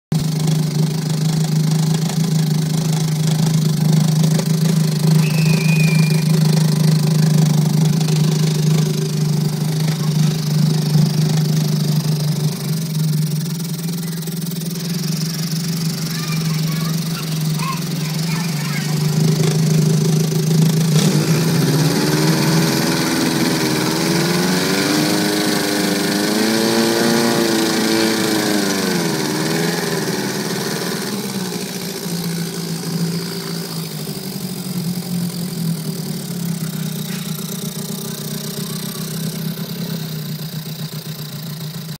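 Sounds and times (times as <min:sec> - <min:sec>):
outboard motor running: 0:00.1 - 0:42.0.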